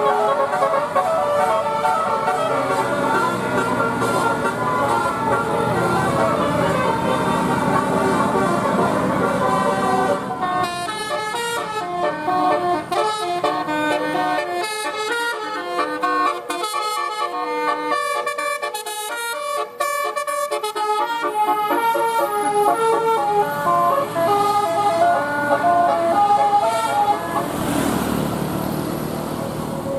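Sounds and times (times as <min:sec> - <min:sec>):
horn playing rapid notes: 0:00.0 - 0:27.6.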